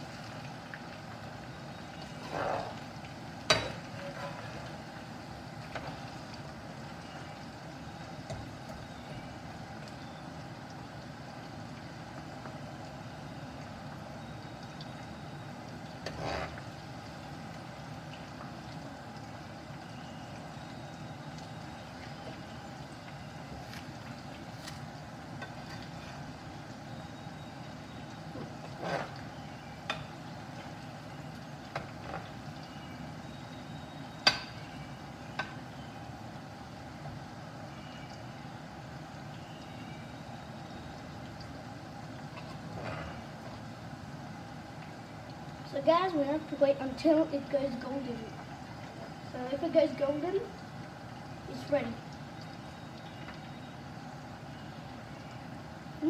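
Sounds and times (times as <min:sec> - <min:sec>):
fries deep-frying in oil: 0:00.0 - 0:56.0.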